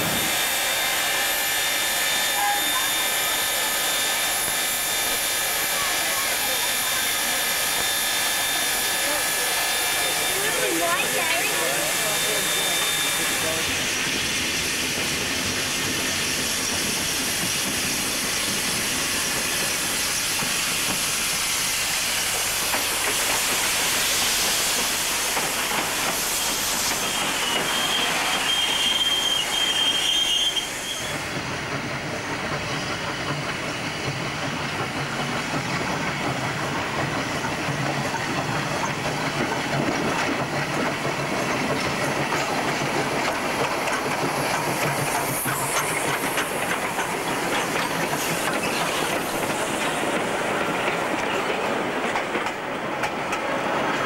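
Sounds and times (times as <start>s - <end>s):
locomotive wheels clattering on rails: 0.0s - 54.0s
steam hissing: 0.0s - 54.0s.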